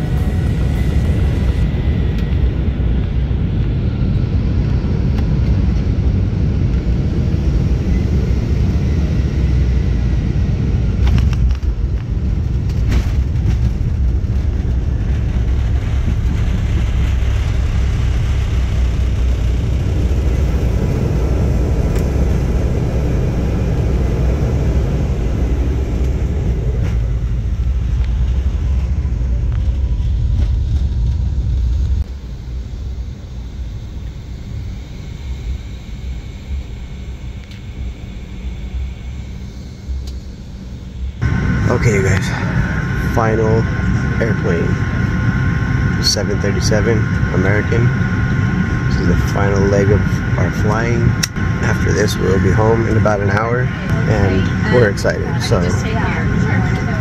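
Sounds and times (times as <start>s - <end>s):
jet engine and airflow rumble: 0.0s - 57.0s.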